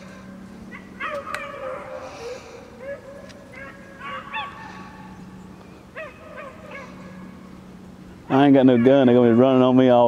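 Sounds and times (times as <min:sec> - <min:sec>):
dogs baying: 0:00.0 - 0:07.5, 0:08.3 - 0:09.7
steady low hum: 0:00.0 - 0:10.0.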